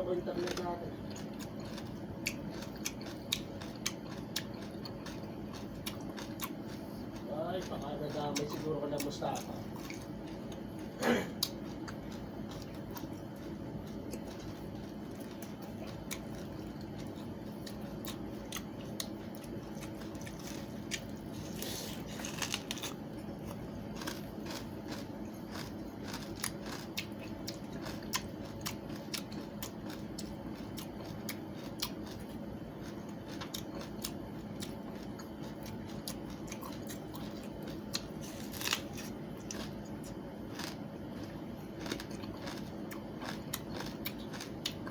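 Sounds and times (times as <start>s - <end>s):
chewing crisp watermelon rind: 0.0s - 44.9s.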